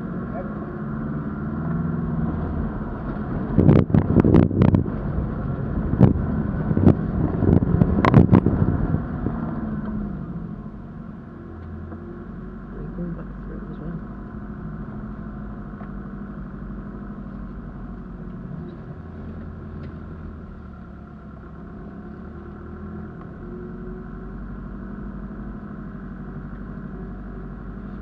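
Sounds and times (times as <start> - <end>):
engine running at low revs: 0.0 - 28.0.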